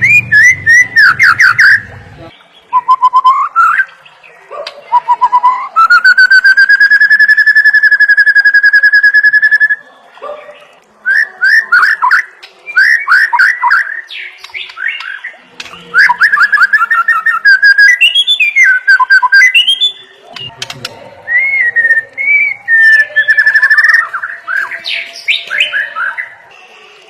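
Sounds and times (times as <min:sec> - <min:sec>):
bird singing whistled trills: 0:00.0 - 0:04.2, 0:04.9 - 0:09.9, 0:11.0 - 0:20.6, 0:21.2 - 0:26.4.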